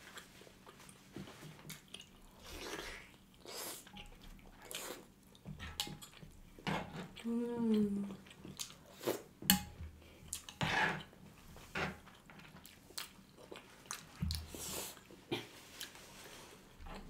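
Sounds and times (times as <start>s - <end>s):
people chewing: 0.0s - 9.3s, 10.0s - 17.0s.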